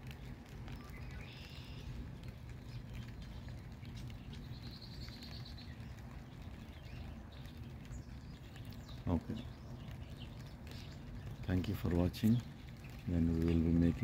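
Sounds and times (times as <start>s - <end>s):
faint patter: 0.0s - 14.0s
small bird chirping: 0.0s - 14.0s.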